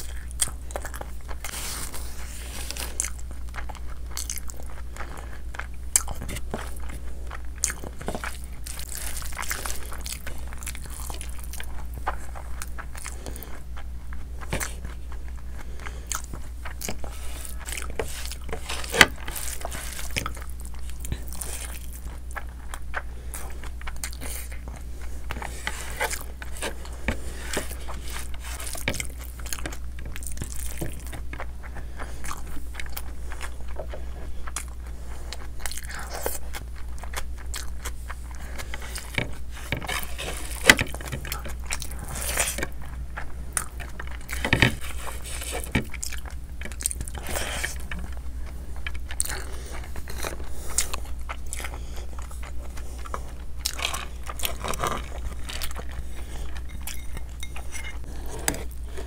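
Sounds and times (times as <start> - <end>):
steady low hum: 0.0 - 59.0
wet chewing and lip smacks: 0.0 - 59.0.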